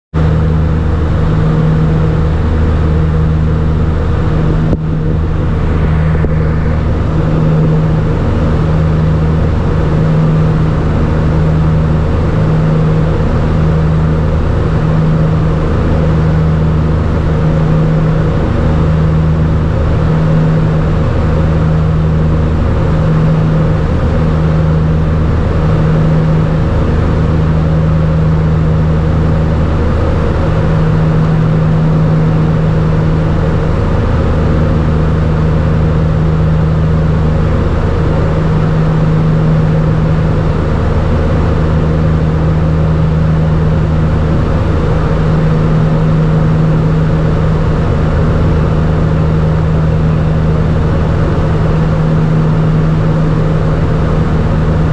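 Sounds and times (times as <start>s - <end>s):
turboprop engines droning and throbbing: 0.1s - 54.9s.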